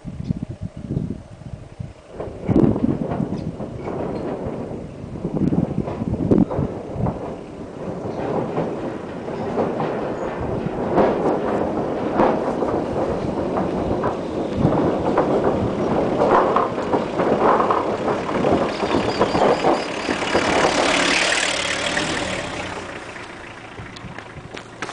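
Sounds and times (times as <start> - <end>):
van engine running: 0.5 - 24.9
bridge deck clatter and rattle: 1.5 - 24.9.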